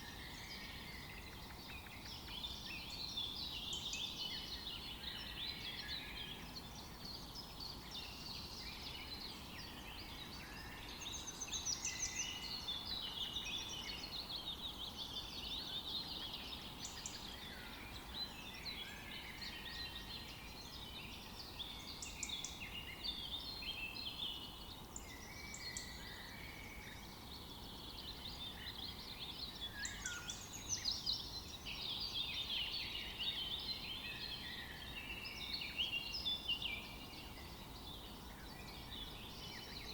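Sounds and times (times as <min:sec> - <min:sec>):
faint background hiss: 0:00.0 - 0:39.9
songbirds chirping and singing: 0:00.0 - 0:39.9.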